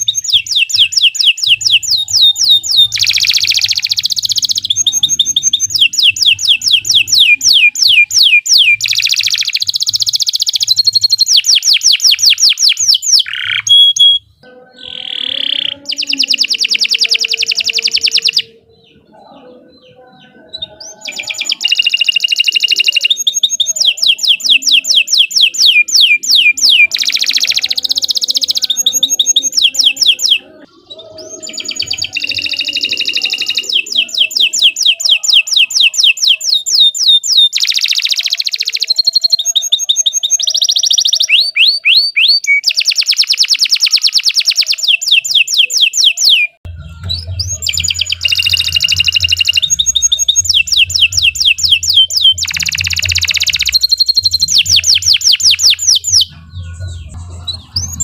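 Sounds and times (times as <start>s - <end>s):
canary singing fast trills: 0.0s - 58.0s.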